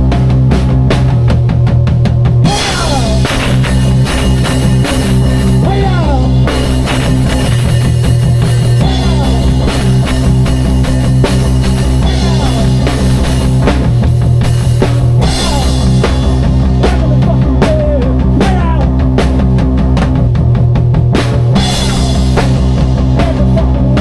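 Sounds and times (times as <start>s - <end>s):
bass guitar: 0.0s - 24.0s
drum kit: 0.0s - 24.0s
electric guitar bending notes: 2.3s - 20.2s, 21.4s - 24.0s.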